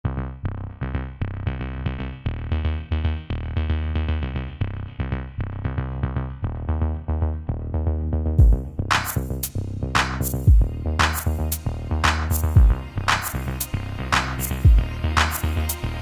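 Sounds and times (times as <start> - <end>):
electronic music with synth and bass: 0.0 - 16.0.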